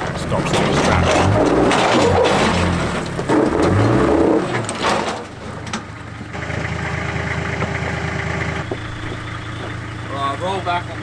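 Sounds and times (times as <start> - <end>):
engine revving and idling: 0.0 - 11.0.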